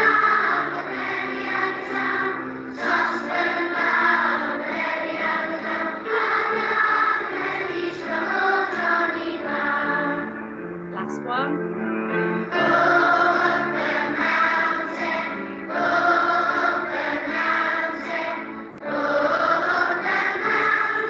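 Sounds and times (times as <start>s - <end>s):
voices singing: 0.0s - 10.4s, 12.5s - 21.0s
musical backing track: 0.0s - 21.0s.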